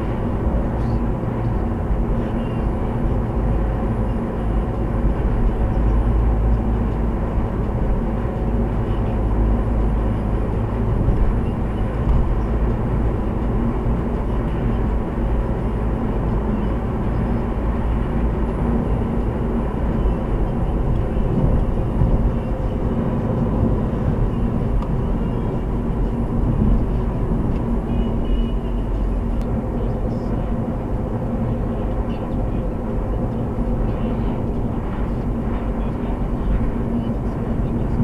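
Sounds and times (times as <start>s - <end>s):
car engine and tyre road noise: 0.0s - 38.0s.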